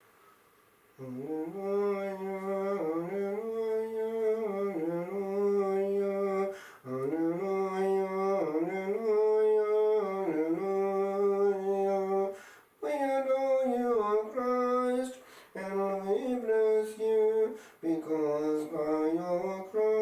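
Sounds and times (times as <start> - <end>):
person chanting: 1.0 - 20.0.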